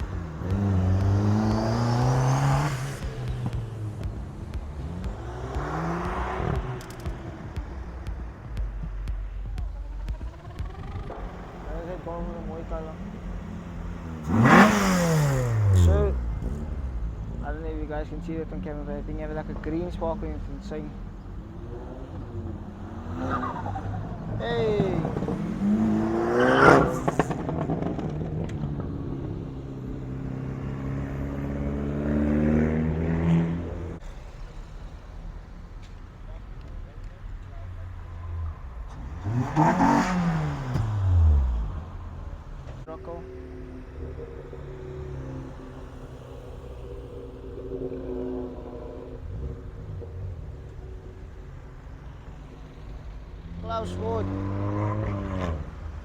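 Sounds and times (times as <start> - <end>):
car engine revving: 0.0 - 56.0
exhaust cracks: 0.0 - 56.0.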